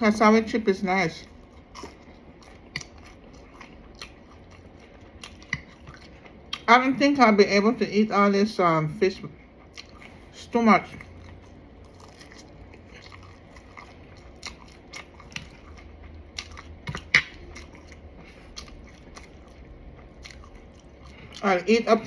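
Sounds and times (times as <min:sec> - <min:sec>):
low steady hum: 0:00.0 - 0:22.0
person chewing crunchy food: 0:01.2 - 0:06.7, 0:09.4 - 0:22.0.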